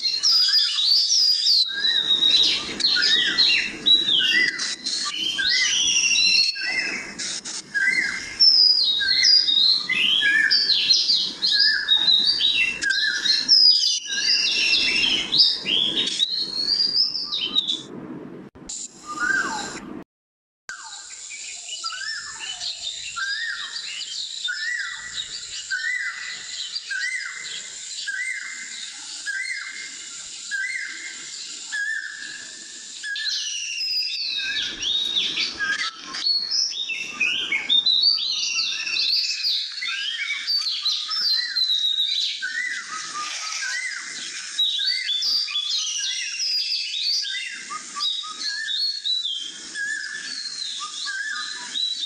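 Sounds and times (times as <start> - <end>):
birds chorus chirping and whistling: 0.0 - 17.9, 19.0 - 19.8, 20.7 - 52.0.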